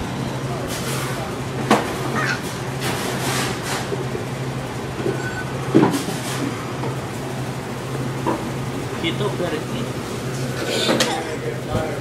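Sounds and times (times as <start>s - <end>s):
kitchen equipment humming: 0.0s - 12.0s.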